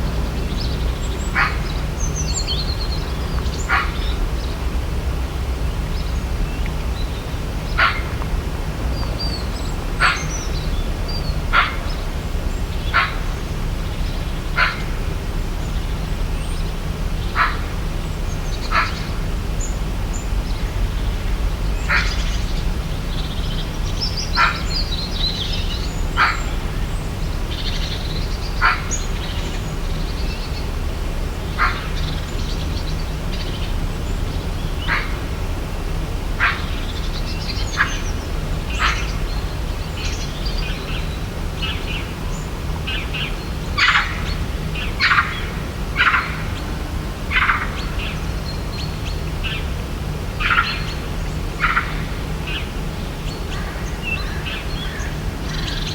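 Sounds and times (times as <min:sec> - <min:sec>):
steady low rumble: 0:00.0 - 0:55.9.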